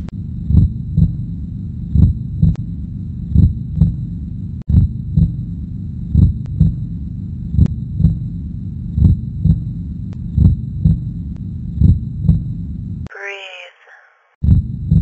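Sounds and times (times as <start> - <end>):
deep double thumps: 0.0 - 13.0, 14.4 - 15.0
steady low hum: 0.0 - 13.1, 14.4 - 15.0.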